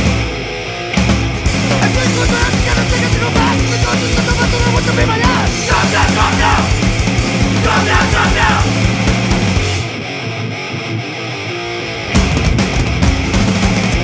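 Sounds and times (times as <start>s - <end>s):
heavy rock music: 0.0s - 14.0s.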